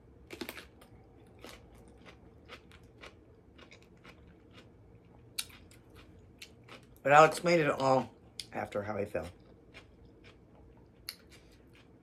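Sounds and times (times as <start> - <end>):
crunchy chewing of cucumber: 0.2 - 7.9, 9.2 - 12.0.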